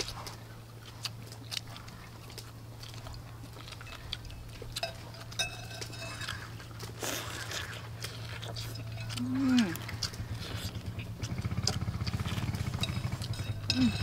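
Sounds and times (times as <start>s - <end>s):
low steady hum: 0.0s - 14.0s
people chewing: 0.0s - 14.0s.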